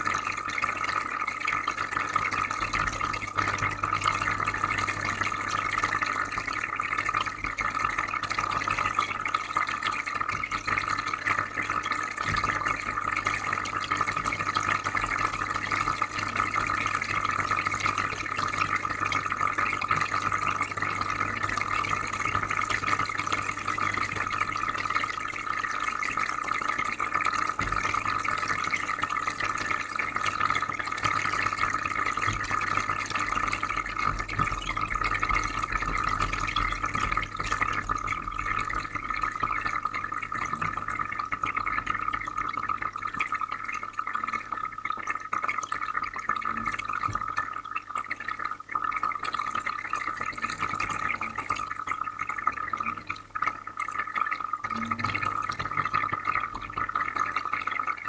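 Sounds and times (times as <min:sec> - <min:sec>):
aquarium filter humming: 0:00.0 - 0:58.0
water trickling and bubbling: 0:00.0 - 0:58.0.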